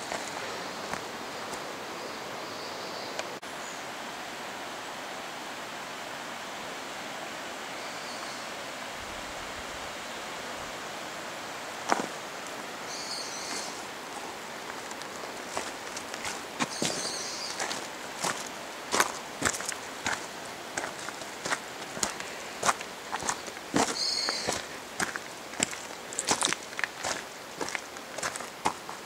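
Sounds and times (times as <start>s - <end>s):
stream rushing over rocks: 0.0s - 2.4s, 3.2s - 29.0s.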